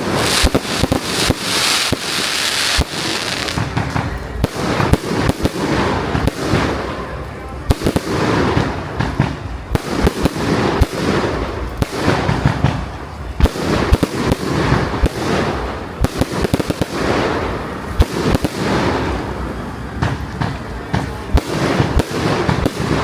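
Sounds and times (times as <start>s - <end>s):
firework shells bursting: 0.0s - 18.7s
firework crackling: 0.0s - 23.0s.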